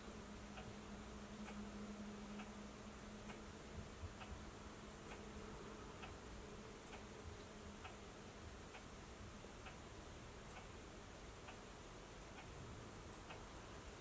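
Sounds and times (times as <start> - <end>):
faint ticking: 0.0 - 14.0
room hiss: 0.0 - 14.0.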